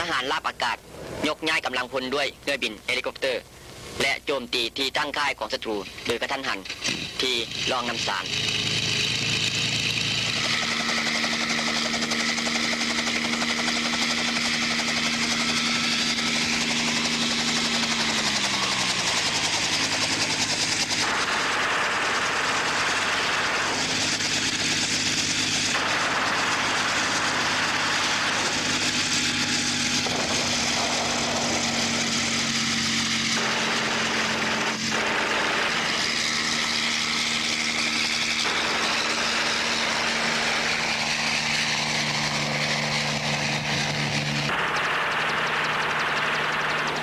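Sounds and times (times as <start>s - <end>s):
helicopter engine and rotor drone: 0.0s - 47.0s.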